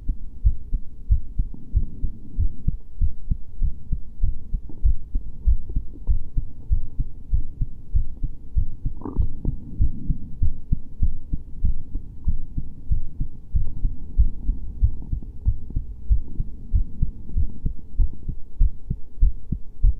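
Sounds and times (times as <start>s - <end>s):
heartbeat thumps: 0.0s - 19.9s.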